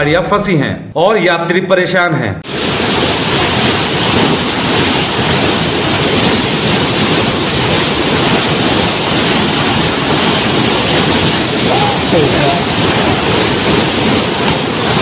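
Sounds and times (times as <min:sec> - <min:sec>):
river torrent rushing: 0:02.5 - 0:15.0.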